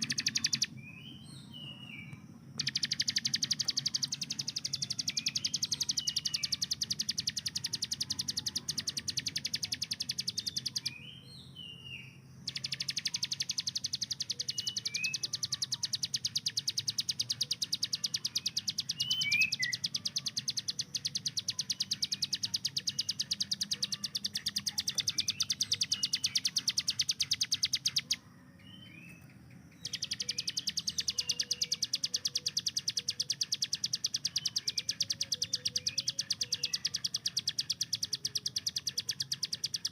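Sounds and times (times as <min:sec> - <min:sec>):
bird rattling song: 0:00.0 - 0:00.7, 0:02.6 - 0:10.9, 0:12.4 - 0:28.2, 0:29.0 - 0:39.9.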